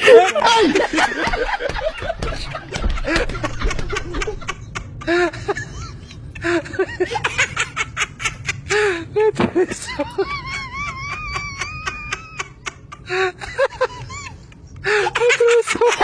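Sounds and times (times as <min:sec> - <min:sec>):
people laughing and giggling: 0:00.0 - 0:16.0.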